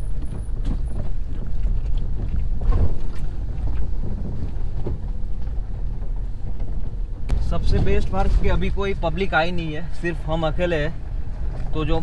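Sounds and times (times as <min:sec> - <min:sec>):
knocks and rattles from bumps: 0:00.0 - 0:09.8
engine and tyres rumbling: 0:00.0 - 0:12.0.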